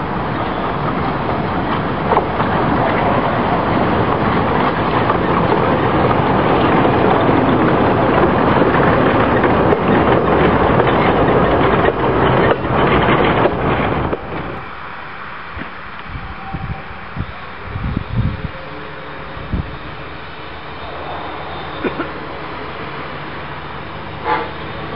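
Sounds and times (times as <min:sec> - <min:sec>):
train wheels rumbling and rattling: 0:00.0 - 0:24.9.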